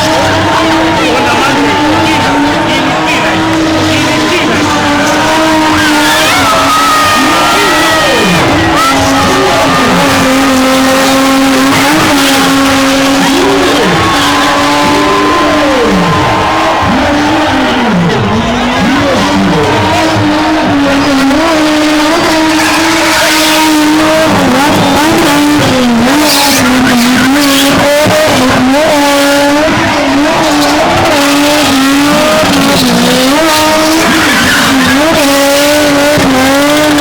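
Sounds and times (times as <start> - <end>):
car engine revving high: 0.0 - 37.0
tyres squealing on tarmac: 0.0 - 37.0.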